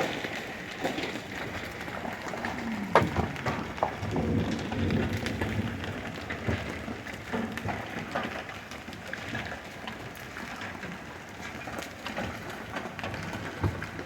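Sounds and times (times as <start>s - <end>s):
hail and rain pelting: 0.0s - 14.0s.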